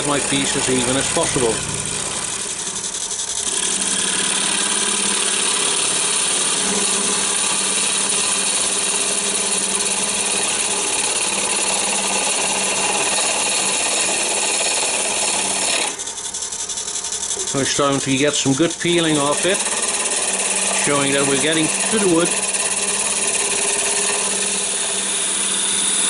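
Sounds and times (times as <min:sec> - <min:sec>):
lathe motor hum: 0:00.0 - 0:26.0
lathe tool cutting wood: 0:00.0 - 0:26.0.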